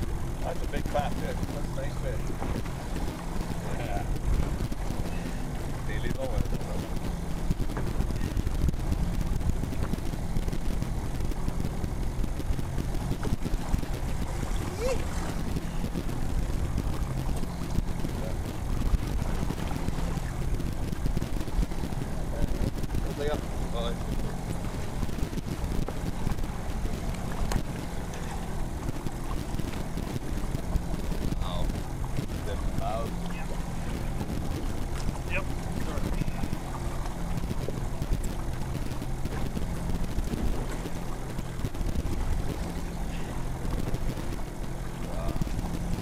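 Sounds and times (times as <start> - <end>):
boat motor humming: 0.0 - 46.0
steady low rumble: 0.0 - 46.0
wind buffeting microphone: 0.0 - 46.0.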